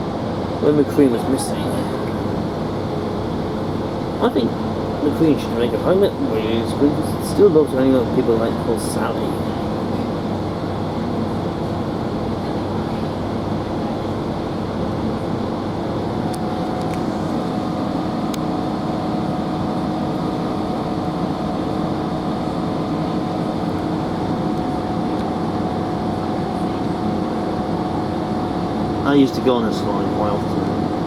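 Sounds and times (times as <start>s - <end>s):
train interior rumble: 0.0s - 31.0s.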